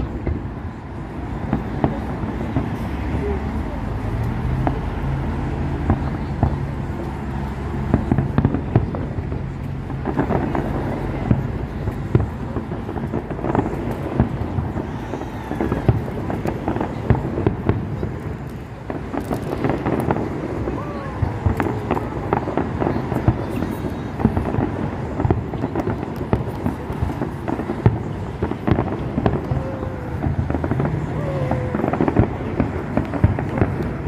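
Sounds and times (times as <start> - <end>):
fireworks bangs and crackling pops: 0.0 - 34.0.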